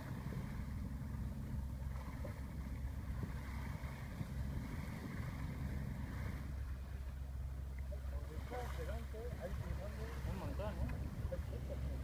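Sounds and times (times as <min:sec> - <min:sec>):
boat engine rumbling: 0:00.0 - 0:12.0
water rushing along hull: 0:00.0 - 0:12.0.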